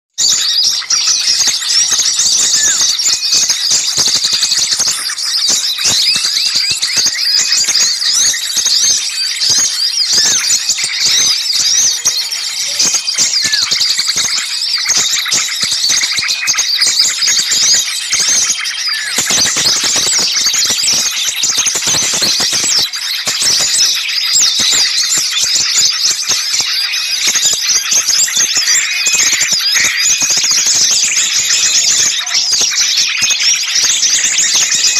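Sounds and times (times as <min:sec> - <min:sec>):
small birds chirping and twittering: 0:00.1 - 0:34.9.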